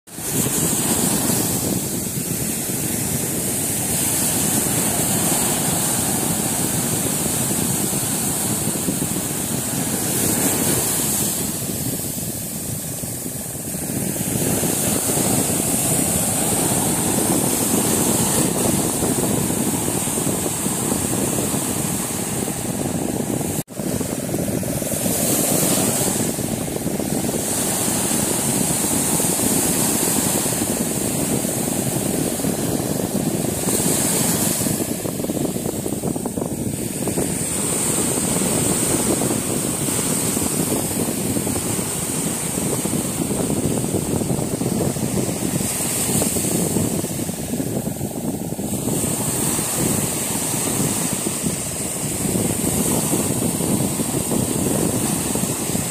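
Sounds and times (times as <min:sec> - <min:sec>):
surf breaking on beach: 0:00.1 - 0:55.9.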